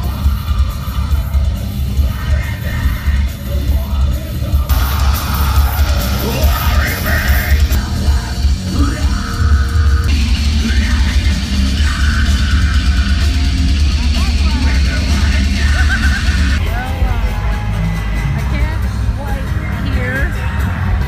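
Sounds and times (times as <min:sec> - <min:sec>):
live heavy metal music: 0:00.0 - 0:21.0.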